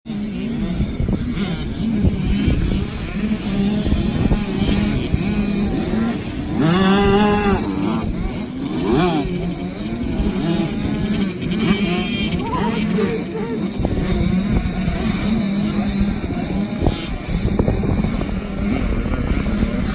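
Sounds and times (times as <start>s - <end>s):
motocross bike engines revving: 0.1s - 19.9s.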